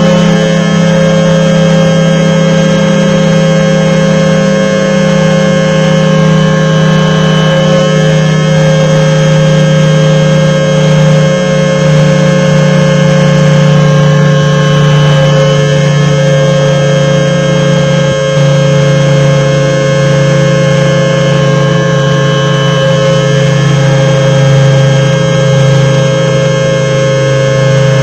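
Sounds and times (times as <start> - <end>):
two-tone siren: 0.0 - 28.0.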